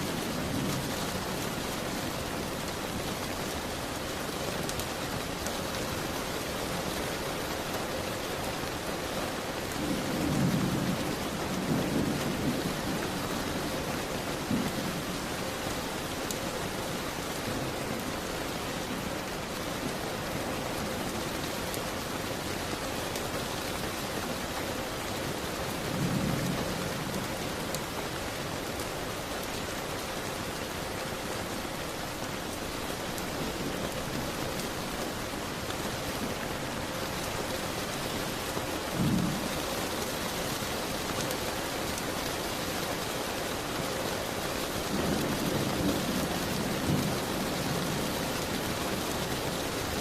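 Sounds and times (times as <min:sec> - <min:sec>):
rain on a window: 0:00.0 - 0:50.0.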